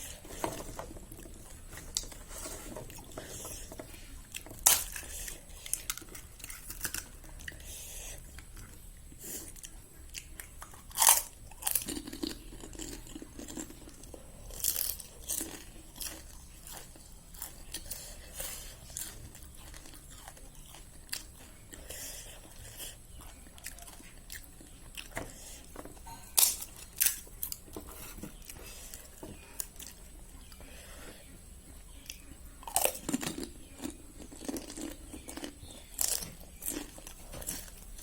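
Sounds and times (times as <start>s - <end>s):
crunching of crisp shells: 0.0s - 38.0s
soft chewing clicks: 0.0s - 38.0s.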